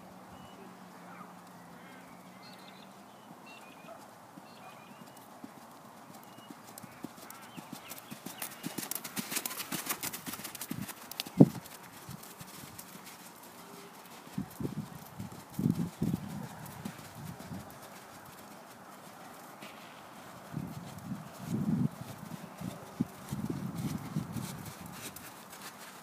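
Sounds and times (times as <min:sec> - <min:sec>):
pony hoofbeats on sand: 0:03.3 - 0:26.0.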